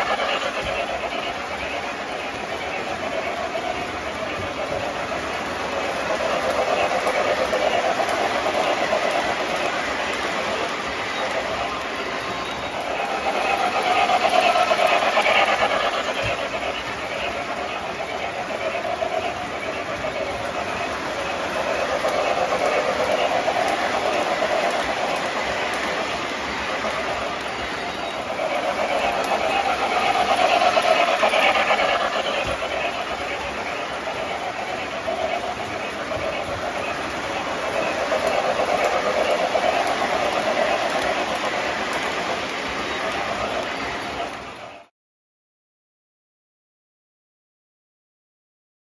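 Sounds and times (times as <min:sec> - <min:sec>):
model train wheels rolling: 0:00.0 - 0:44.9.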